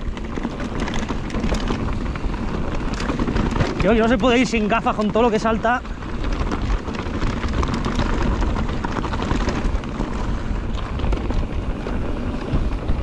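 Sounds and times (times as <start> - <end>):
bike rattling: 0.0 - 13.0
tyres rumbling over gravel: 0.0 - 13.0
wind buffeting microphone: 0.0 - 13.0.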